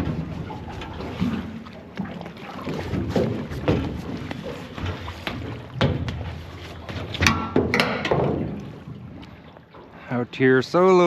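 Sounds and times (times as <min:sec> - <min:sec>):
water knocking and splashing: 0:00.0 - 0:10.5.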